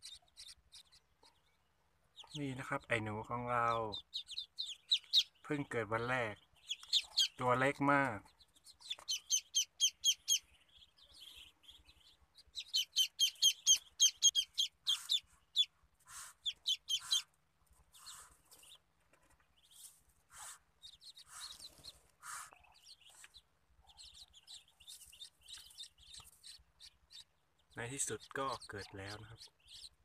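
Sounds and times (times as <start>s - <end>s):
ducklings peeping: 0.0s - 30.0s.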